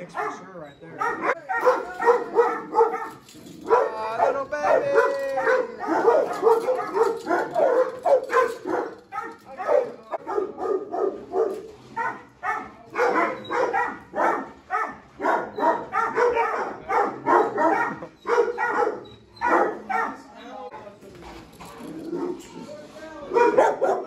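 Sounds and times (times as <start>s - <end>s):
dogs barking and yipping: 0.0s - 20.6s, 21.4s - 24.0s.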